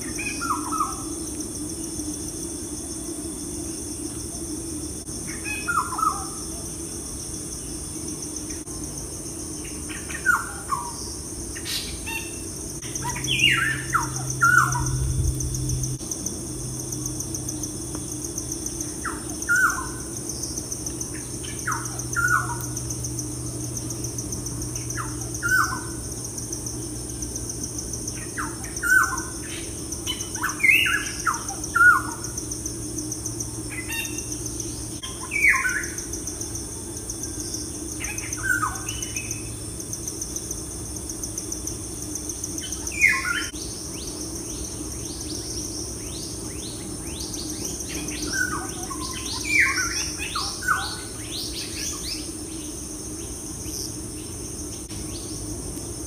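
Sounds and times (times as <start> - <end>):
steady high-pitched hiss: 0.0 - 56.0.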